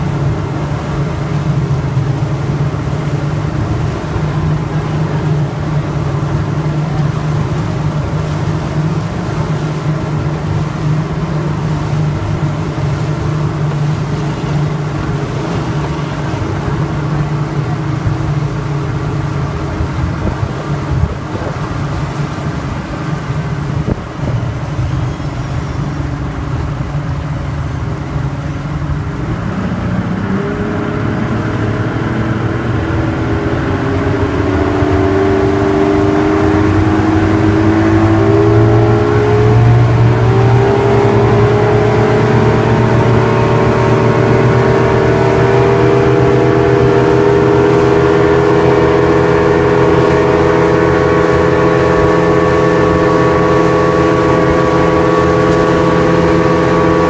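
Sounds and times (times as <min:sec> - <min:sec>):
rush of boat wake: 0:00.0 - 0:57.0
speedboat engine running: 0:00.0 - 0:57.0.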